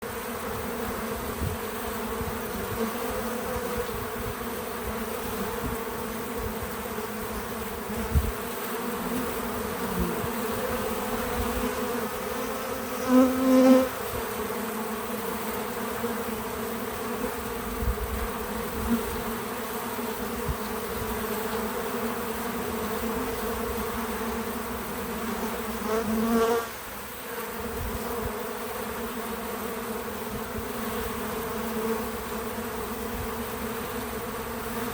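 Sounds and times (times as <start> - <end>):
bee flying close by: 0.0 - 34.9
bees buzzing: 0.0 - 34.9.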